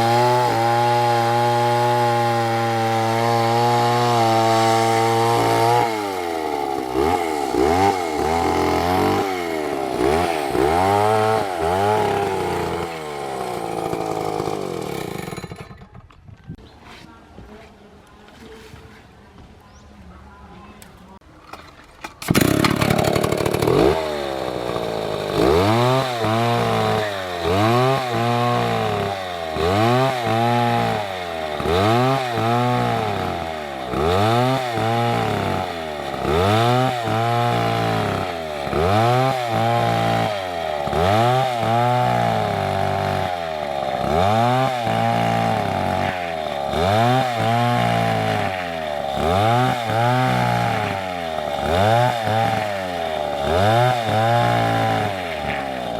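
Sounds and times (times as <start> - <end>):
chainsaw engine revving: 0.0 - 16.0, 22.2 - 55.9.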